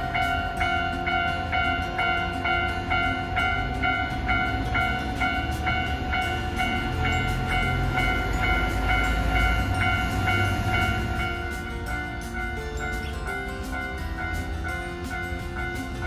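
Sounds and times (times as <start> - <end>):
level crossing warning bell ringing: 0.0 - 16.0
low rumble of tram: 0.0 - 16.0.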